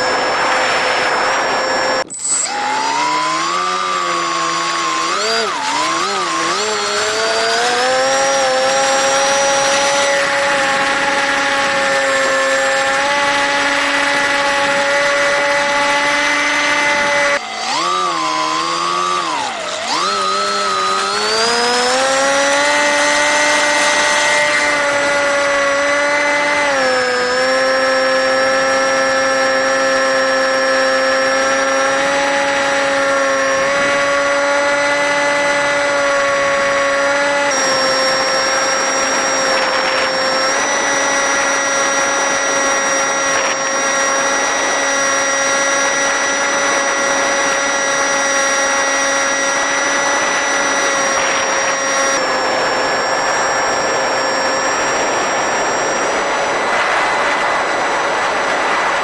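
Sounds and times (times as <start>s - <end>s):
model plane electric motor whine: 0.0s - 59.0s.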